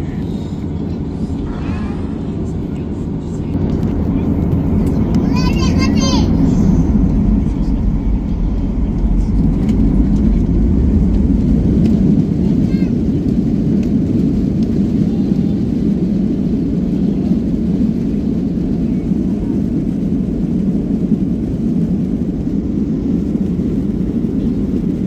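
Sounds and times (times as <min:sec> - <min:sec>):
airliner cabin engine roar: 0:00.0 - 0:25.0.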